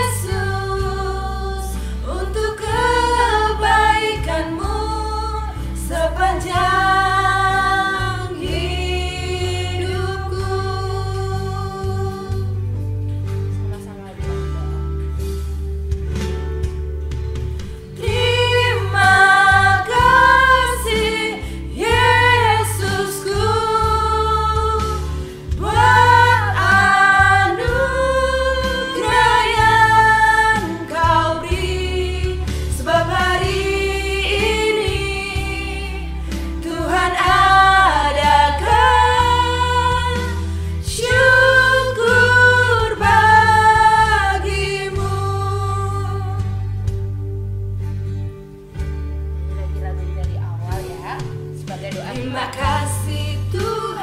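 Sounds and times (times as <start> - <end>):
women singing worship song: 0.0 - 12.9, 17.9 - 47.2, 52.0 - 54.0
instrumental backing with bass: 0.0 - 54.0.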